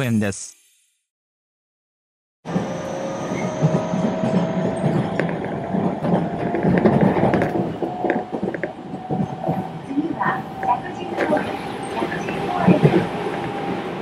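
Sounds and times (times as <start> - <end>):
train interior rumble: 2.5 - 14.0.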